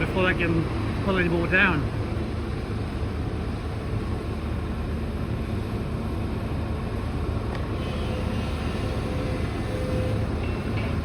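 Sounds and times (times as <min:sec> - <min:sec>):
engines rumbling: 0:00.0 - 0:11.0.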